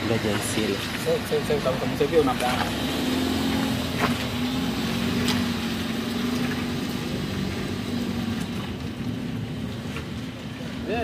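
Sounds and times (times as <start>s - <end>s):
engine humming: 0.0s - 10.6s.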